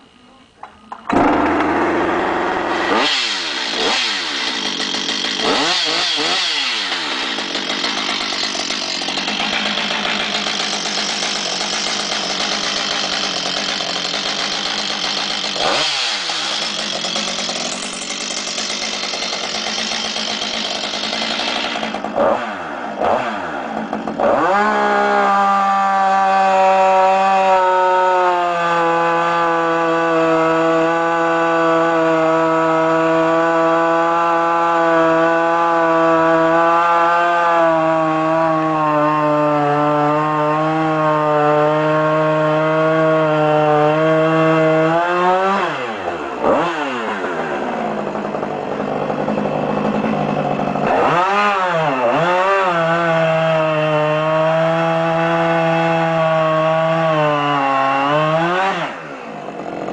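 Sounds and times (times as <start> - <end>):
chainsaw running at high revs: 0.6 - 59.9.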